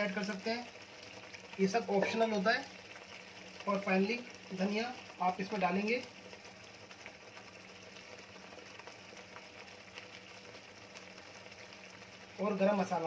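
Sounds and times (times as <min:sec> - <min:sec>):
gravy simmering in a wok: 0:00.0 - 0:13.0.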